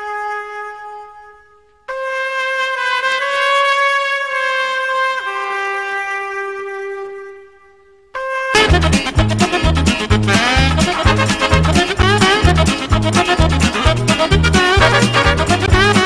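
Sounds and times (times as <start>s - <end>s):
wind instrument long notes: 0.0s - 16.0s.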